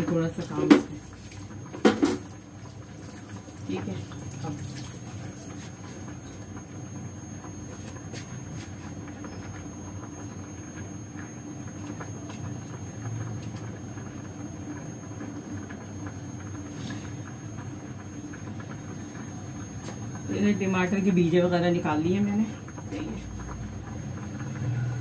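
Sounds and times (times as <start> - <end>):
gas burner rumble: 0.0 - 25.0.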